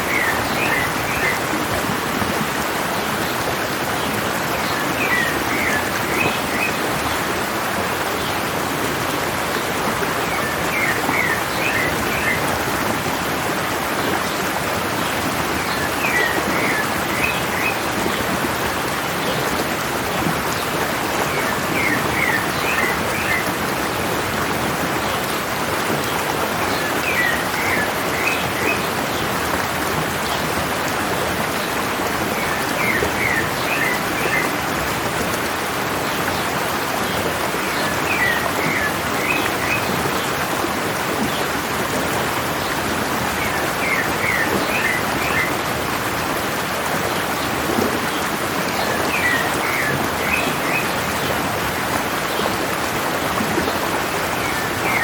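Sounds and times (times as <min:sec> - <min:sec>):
mountain stream running: 0:00.0 - 0:55.0.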